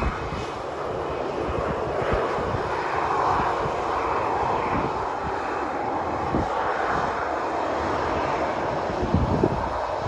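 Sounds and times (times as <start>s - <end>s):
jet engines running: 0.0s - 10.0s
wind buffeting microphone: 0.0s - 10.0s.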